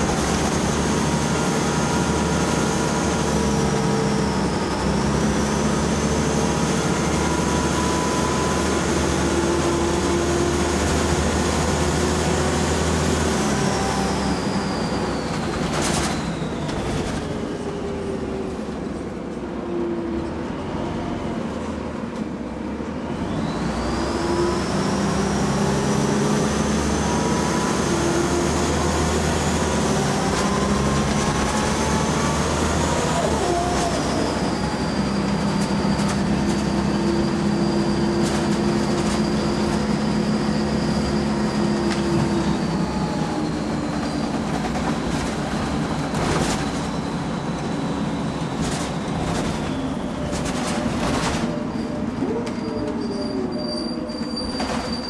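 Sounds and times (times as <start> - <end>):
bus engine and driveline whine: 0.0 - 55.0.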